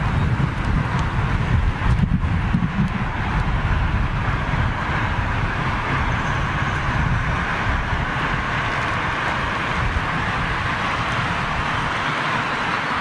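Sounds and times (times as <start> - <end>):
fluttering low rumble: 0.0 - 10.6
jet engines roaring: 0.0 - 13.0.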